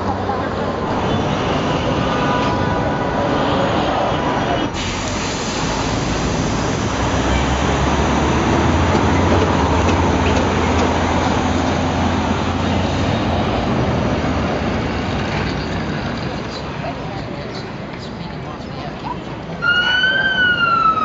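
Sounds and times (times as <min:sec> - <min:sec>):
low engine rumble: 0:00.0 - 0:17.5
city street traffic: 0:00.0 - 0:21.0.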